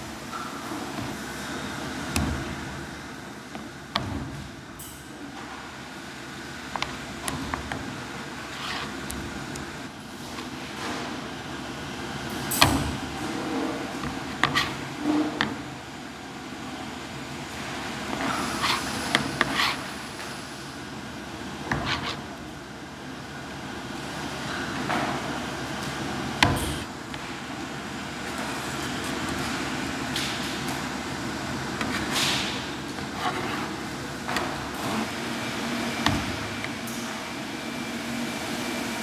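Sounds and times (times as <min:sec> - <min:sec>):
machinery hum: 0:00.0 - 0:39.0.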